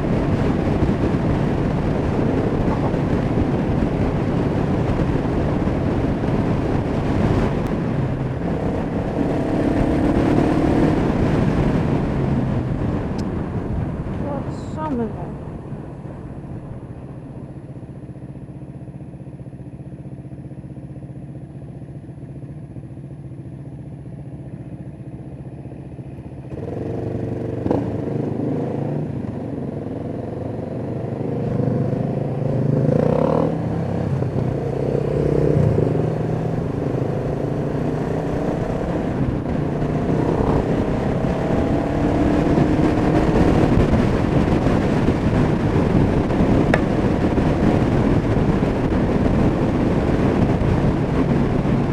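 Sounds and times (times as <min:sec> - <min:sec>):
wind noise: 0:00.0 - 0:20.3, 0:26.2 - 0:51.9
motorcycle engine: 0:00.0 - 0:51.9.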